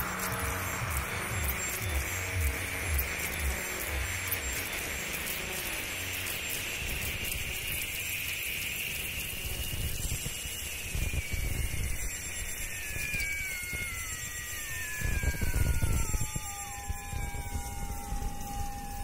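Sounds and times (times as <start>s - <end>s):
instrumental electronic music: 0.0s - 19.0s.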